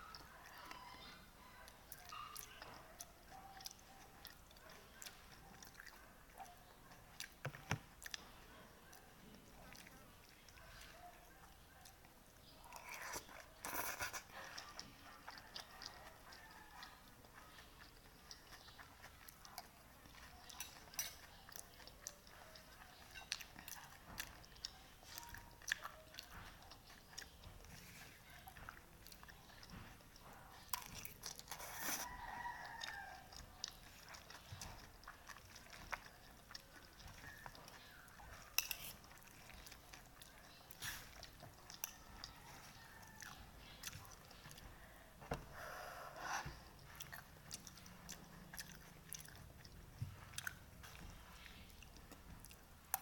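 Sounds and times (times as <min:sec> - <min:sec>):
person chewing noodles: 0:00.0 - 0:53.0.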